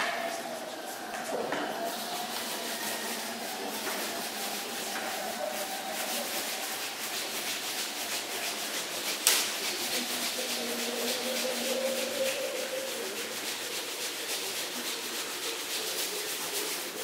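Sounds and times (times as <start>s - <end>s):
frame rubbing against shirt: 0.0s - 17.0s.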